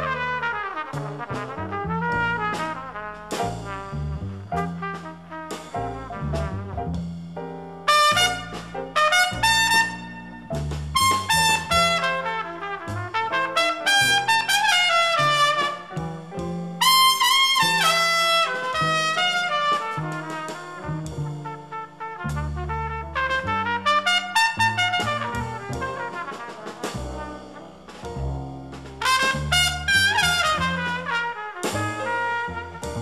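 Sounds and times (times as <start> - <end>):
trumpet playing quick runs: 0.0 - 6.7, 7.9 - 16.0, 16.8 - 27.4, 29.0 - 33.0
walking double bass: 0.0 - 33.0.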